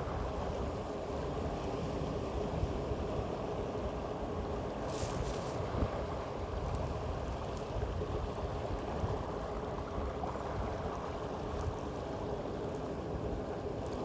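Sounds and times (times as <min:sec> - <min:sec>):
low rumble of water: 0:00.0 - 0:14.0
wind: 0:00.0 - 0:14.0.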